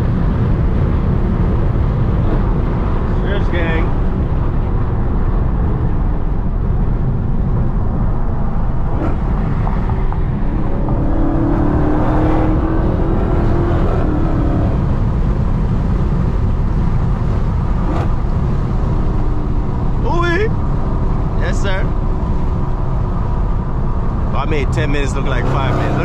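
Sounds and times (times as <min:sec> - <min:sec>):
car engine rumbling: 0:00.0 - 0:26.0
road noise: 0:00.0 - 0:26.0.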